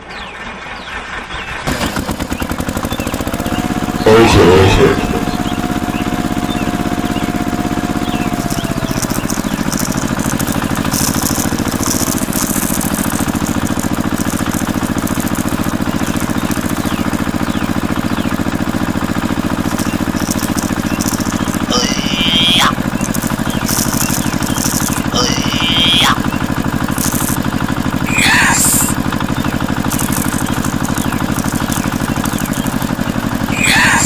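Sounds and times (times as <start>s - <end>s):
small engine running: 0.0s - 34.0s.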